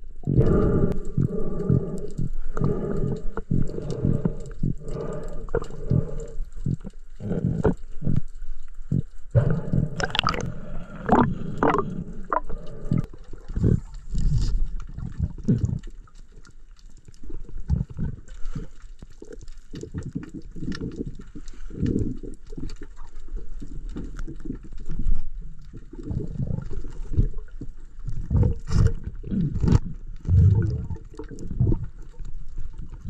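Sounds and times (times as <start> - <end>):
muffled underwater gurgles and knocks: 0.0 - 33.0.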